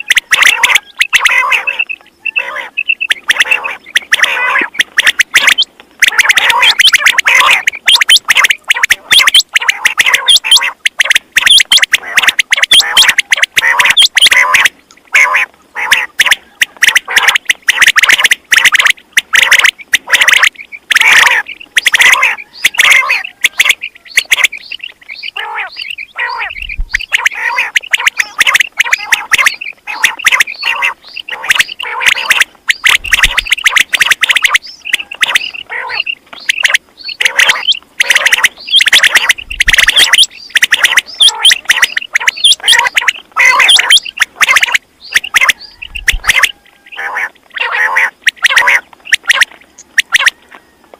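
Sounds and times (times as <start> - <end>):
quail calling: 0.0 - 50.9.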